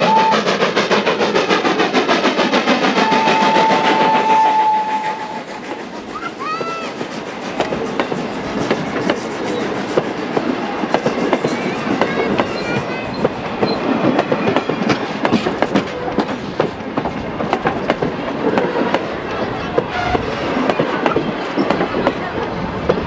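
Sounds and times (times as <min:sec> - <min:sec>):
train wheels clickety-clack: 0:00.0 - 0:23.0.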